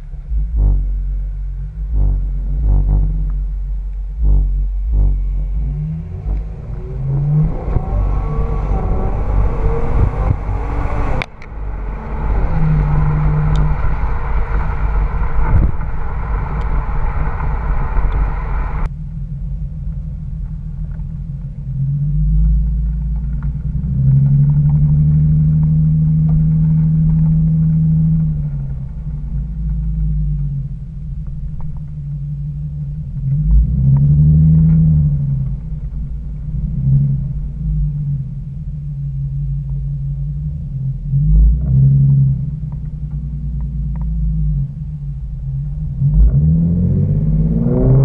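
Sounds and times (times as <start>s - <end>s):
car exhaust note: 0.0s - 48.0s
deep exhaust drone: 0.0s - 48.0s
road noise: 0.0s - 48.0s.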